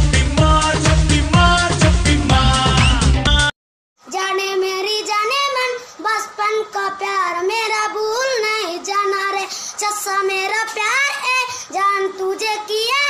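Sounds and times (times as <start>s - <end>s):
high singing voice: 0.0s - 13.0s.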